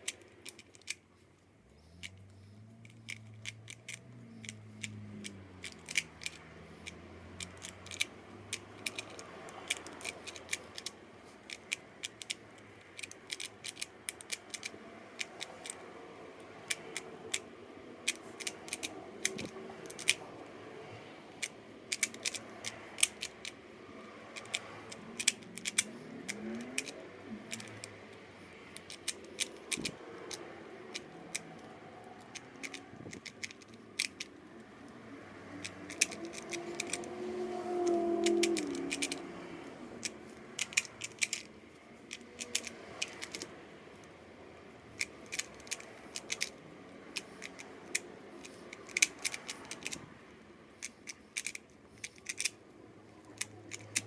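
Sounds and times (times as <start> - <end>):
puzzle cube plastic clicks: 0.0 - 1.1, 1.8 - 15.8, 16.6 - 20.2, 21.3 - 23.6, 24.3 - 28.2, 28.8 - 34.4, 35.6 - 37.2, 37.8 - 39.2, 40.0 - 44.1, 45.0 - 50.1, 50.8 - 54.0.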